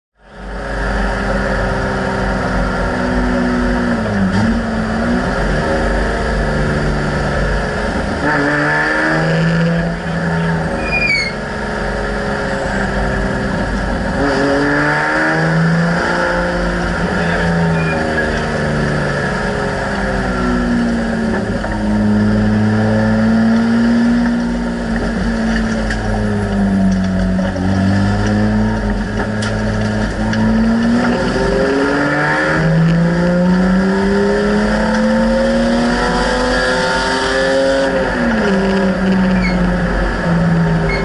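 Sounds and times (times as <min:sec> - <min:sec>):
race car engine revving: 0:00.2 - 0:41.0.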